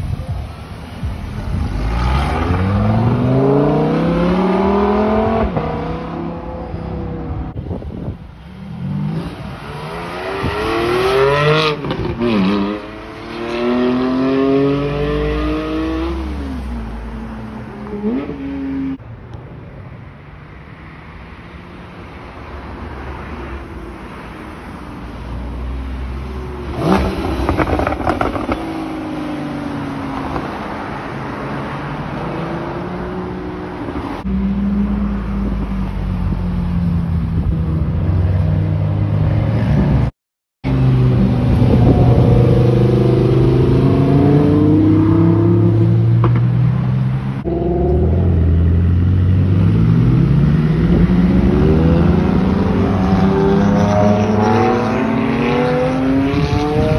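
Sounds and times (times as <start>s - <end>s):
sports car engines revving: 0.2s - 7.6s, 8.6s - 19.0s, 25.2s - 40.0s, 40.7s - 56.9s.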